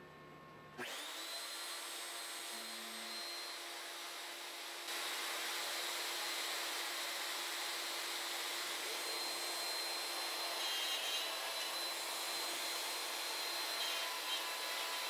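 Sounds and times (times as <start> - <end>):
router spindle motor whine: 0.8 - 15.0.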